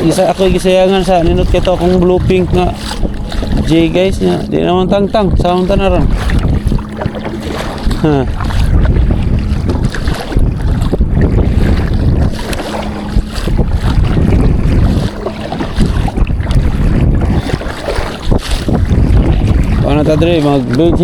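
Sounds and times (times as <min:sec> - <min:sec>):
water lapping against kayak: 0:00.0 - 0:21.0
wind buffeting microphone: 0:00.0 - 0:21.0.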